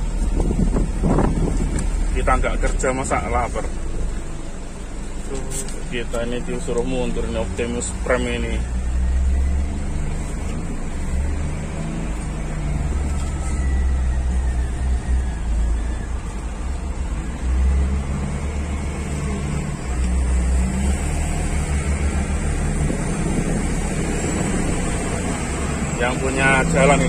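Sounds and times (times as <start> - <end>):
truck diesel engine rumble: 0.0 - 27.0.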